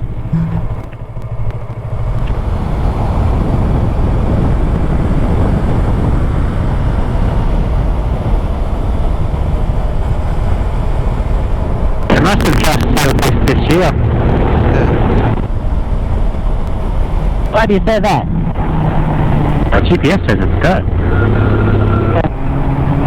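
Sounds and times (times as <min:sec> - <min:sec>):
motorcycle engine noise: 0:00.0 - 0:23.0
wind rushing on microphone: 0:00.0 - 0:23.0.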